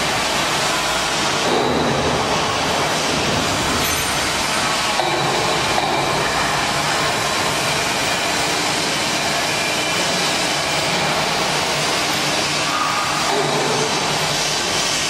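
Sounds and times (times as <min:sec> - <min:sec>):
mixer motors rumbling and whirring: 0:00.0 - 0:15.0.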